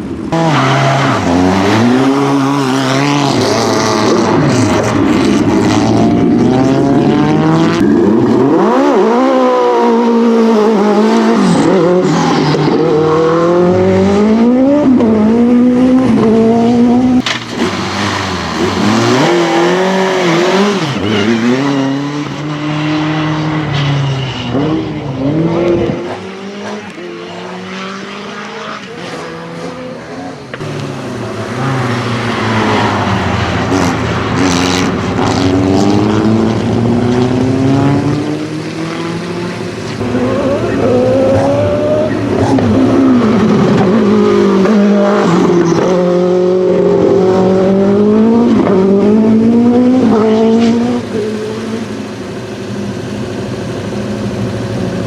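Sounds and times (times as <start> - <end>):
racing car engine revving: 0.2 - 55.0.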